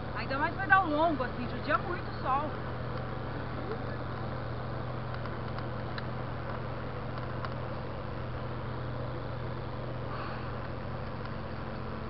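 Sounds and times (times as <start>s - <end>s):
low hum: 0.0s - 12.0s
bike tyres rolling on wet asphalt: 0.1s - 12.0s.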